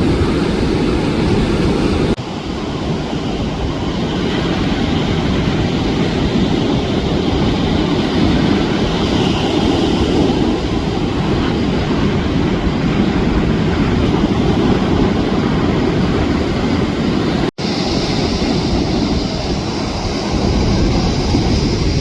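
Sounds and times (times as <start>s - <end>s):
ocean surf: 0.0s - 22.0s
wind rumble on microphone: 0.0s - 22.0s.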